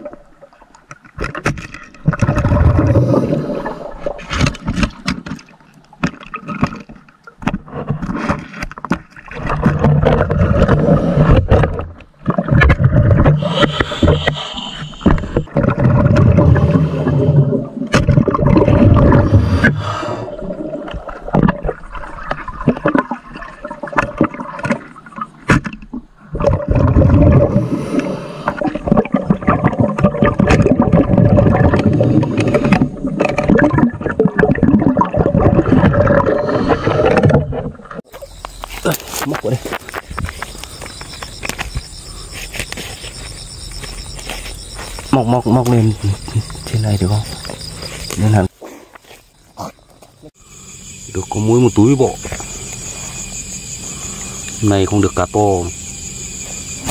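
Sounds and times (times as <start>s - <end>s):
water sloshing and gurgling: 0.0s - 56.9s.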